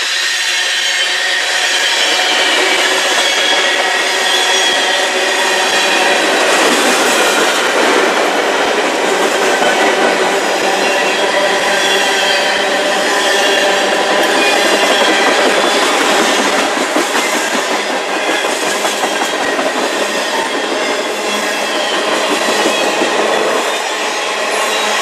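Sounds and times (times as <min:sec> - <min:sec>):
metallic ringing of wheels on rail: 0:00.0 - 0:25.0.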